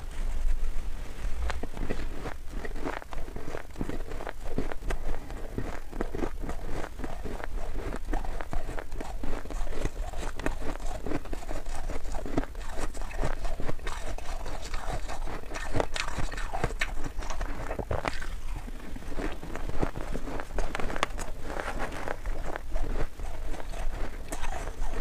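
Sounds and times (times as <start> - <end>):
chewing crunchy ice: 1.3 - 25.0.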